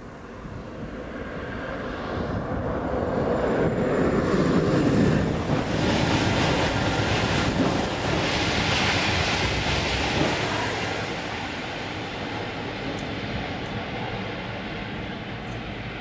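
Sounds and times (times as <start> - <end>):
high-speed train rushing past: 0.0 - 16.0.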